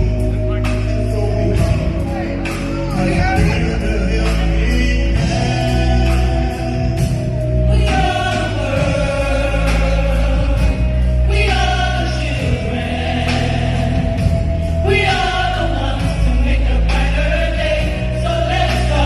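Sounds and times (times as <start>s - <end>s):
band with heavy bass: 0.0s - 19.0s
gospel choir singing: 0.0s - 19.0s.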